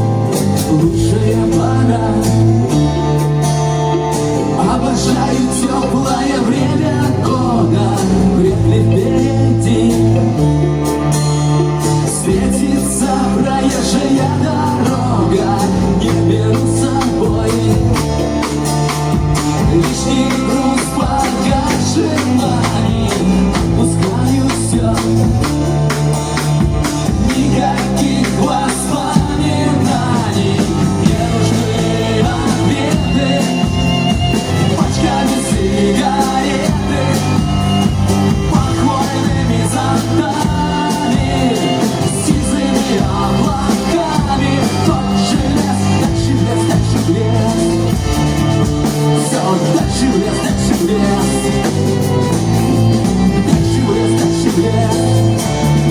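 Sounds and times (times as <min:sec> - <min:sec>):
guitar and bass: 0:00.0 - 0:55.9
person singing: 0:00.0 - 0:55.9
steady drum beat: 0:00.0 - 0:55.9.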